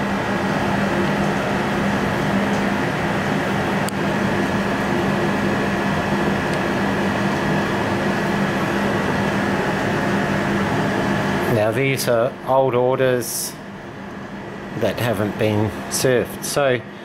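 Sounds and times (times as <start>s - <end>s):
fan humming: 0.0s - 17.0s.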